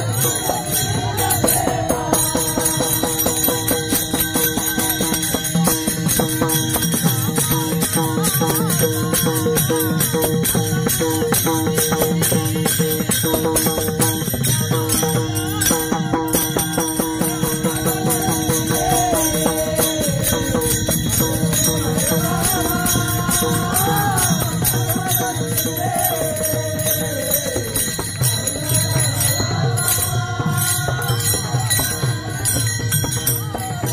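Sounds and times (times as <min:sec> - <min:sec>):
metallic jingling beat: 0:00.0 - 0:33.9.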